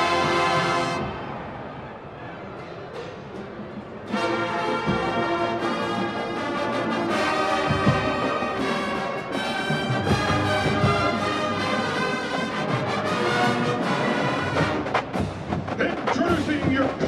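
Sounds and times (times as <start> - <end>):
brass band chords: 0.0 - 1.4, 4.1 - 17.0.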